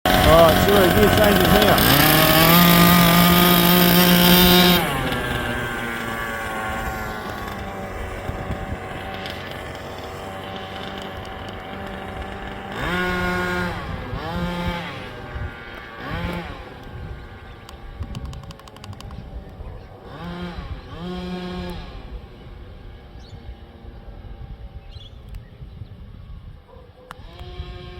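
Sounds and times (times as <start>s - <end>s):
small engine of toy truck revving: 0.0s - 27.9s.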